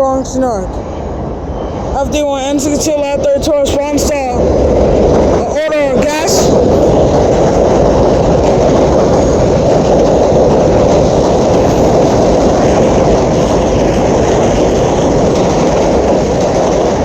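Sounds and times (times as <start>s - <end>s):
loud steady rumbling: 0.0s - 17.0s.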